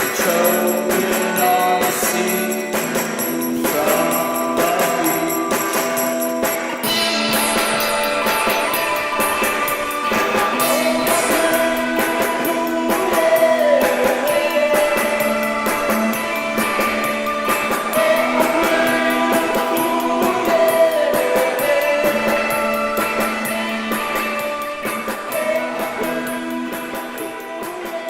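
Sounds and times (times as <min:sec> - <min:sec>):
rock band music: 0:00.0 - 0:28.0.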